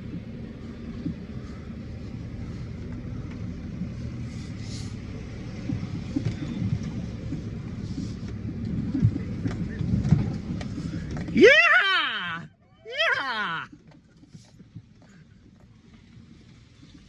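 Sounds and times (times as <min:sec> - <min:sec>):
van engine running under load: 0:00.0 - 0:17.0.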